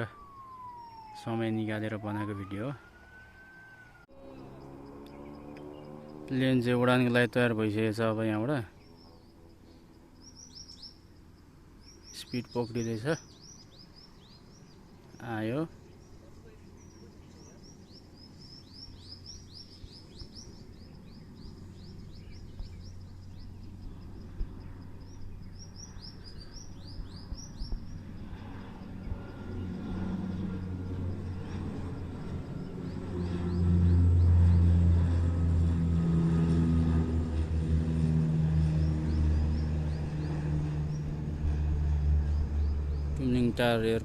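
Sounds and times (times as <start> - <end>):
passenger plane engine drone: 0.0 - 44.0
small birds chirping: 0.2 - 35.3, 37.3 - 44.0.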